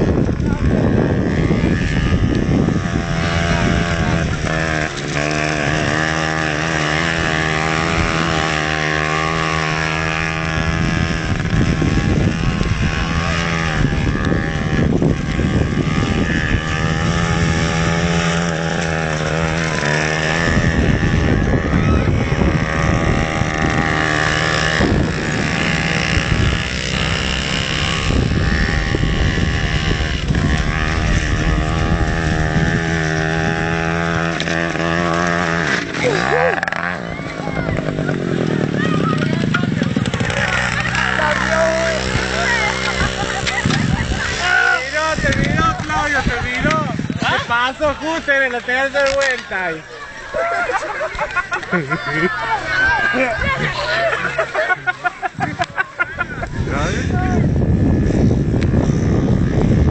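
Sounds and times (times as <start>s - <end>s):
small motorcycle engines revving: 0.0s - 59.9s.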